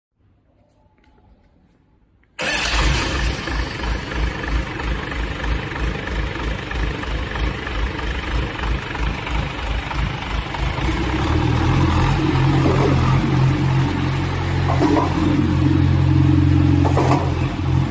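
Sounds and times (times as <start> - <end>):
diesel engine starting and running: 2.4 - 17.9.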